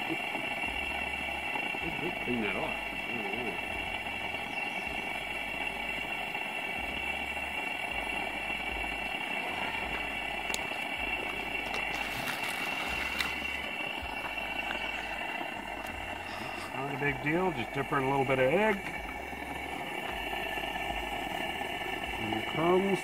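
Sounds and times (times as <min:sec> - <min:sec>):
gas stove burner hissing: 0:00.0 - 0:23.0.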